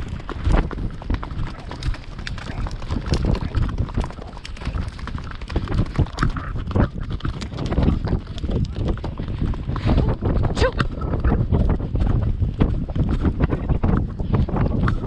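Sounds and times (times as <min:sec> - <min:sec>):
horse hooves galloping on grass: 0:00.0 - 0:15.0
wind rumbling on microphone: 0:00.0 - 0:15.0.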